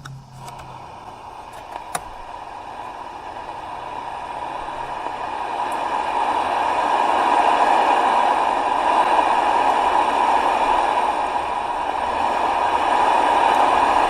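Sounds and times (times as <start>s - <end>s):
radio static hissing: 0.0s - 14.0s.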